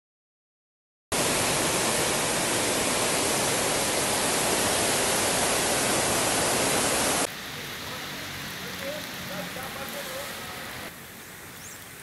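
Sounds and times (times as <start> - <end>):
floodwater rushing: 1.1 - 12.0.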